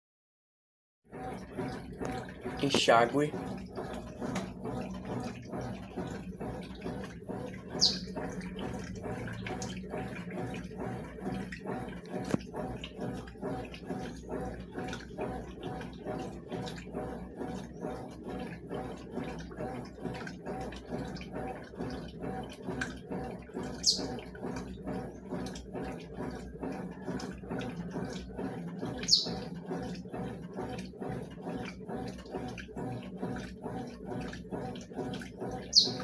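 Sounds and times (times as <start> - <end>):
washing machine churning water: 1.0 - 36.0.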